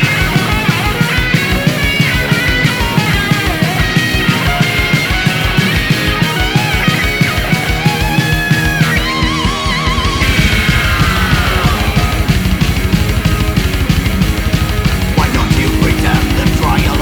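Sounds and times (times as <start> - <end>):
heavy metal music: 0.0 - 17.0
lead guitar sliding down: 0.0 - 17.0.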